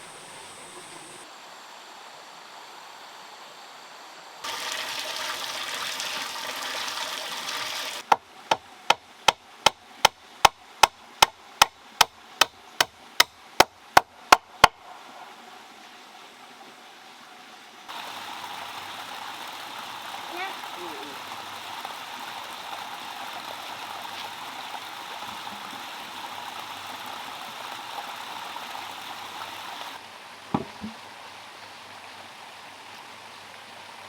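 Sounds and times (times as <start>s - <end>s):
water rushing: 4.4s - 34.0s.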